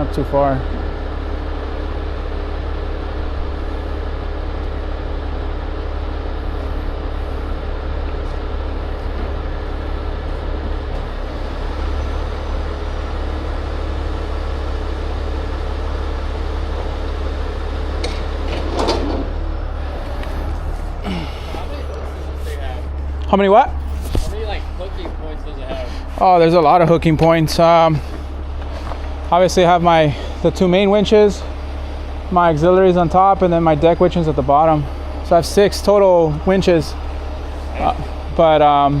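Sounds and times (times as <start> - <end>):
diesel truck engine rumbling: 0.0 - 39.0.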